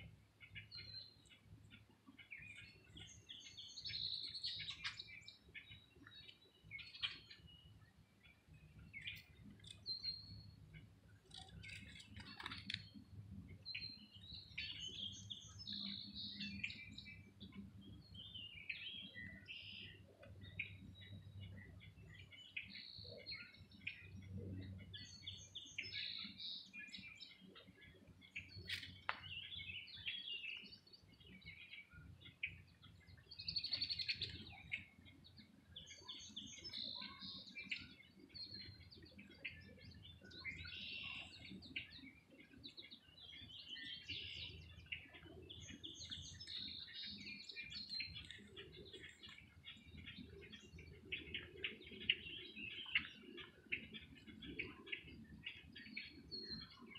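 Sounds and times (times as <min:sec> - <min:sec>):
songbirds chirping and singing: 0:00.0 - 0:56.9.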